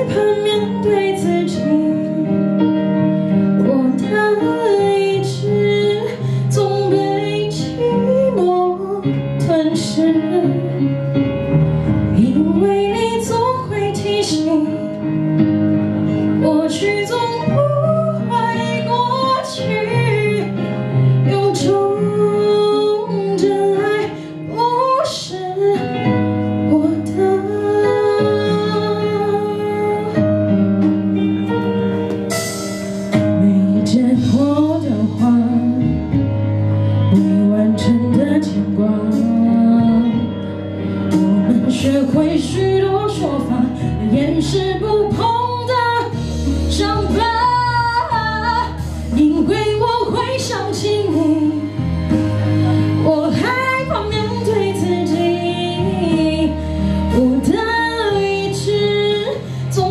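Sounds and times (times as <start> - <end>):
woman singing into a microphone: 0.0 - 31.3, 33.1 - 59.9
instrumental backing: 0.0 - 59.9.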